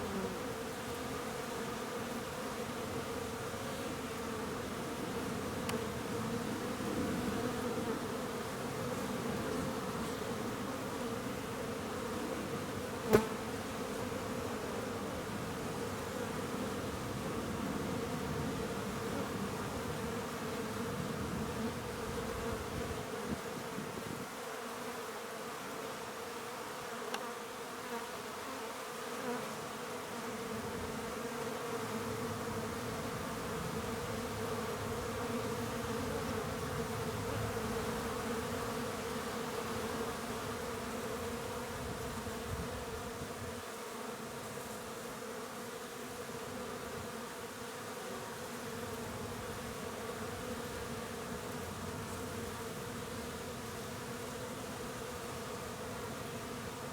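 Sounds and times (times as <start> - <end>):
honeybees buzzing: 0.0 - 56.9.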